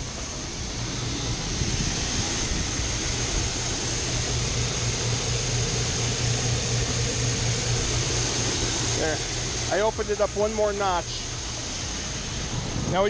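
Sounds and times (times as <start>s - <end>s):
hiss of moving grain: 0.0s - 13.0s
low throbbing motor hum: 0.0s - 13.0s
thin high whine: 0.0s - 13.0s.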